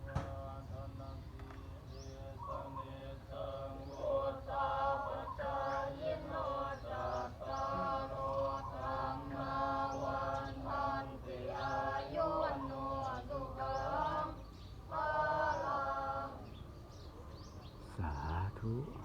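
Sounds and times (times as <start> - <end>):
monks chanting in unison: 0.0 - 19.0.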